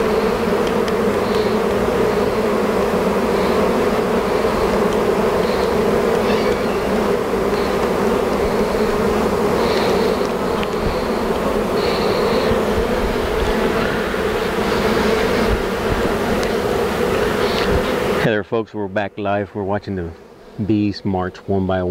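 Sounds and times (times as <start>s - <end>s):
bees buzzing: 0.0s - 21.9s.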